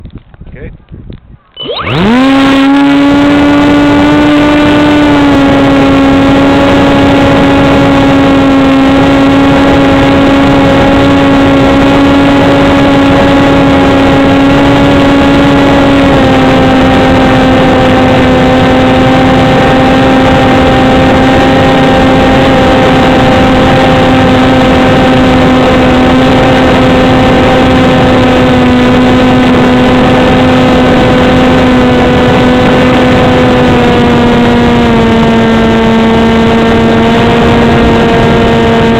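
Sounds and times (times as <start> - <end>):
model plane motor and propeller drone: 1.6 - 38.9.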